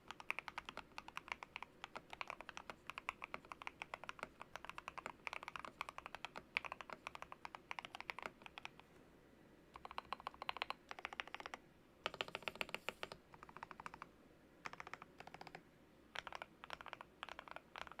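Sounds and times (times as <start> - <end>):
fast typing on mechanical keyboard: 0.0 - 8.8, 9.8 - 15.6, 16.2 - 18.0.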